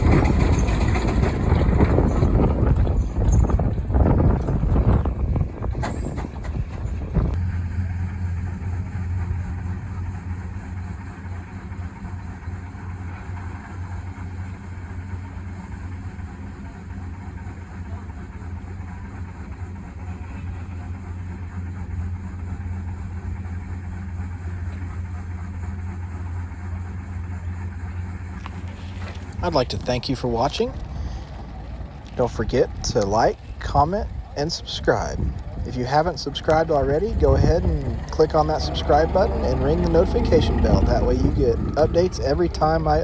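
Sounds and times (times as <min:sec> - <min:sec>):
vehicle engine drone: 0:00.0 - 0:43.0.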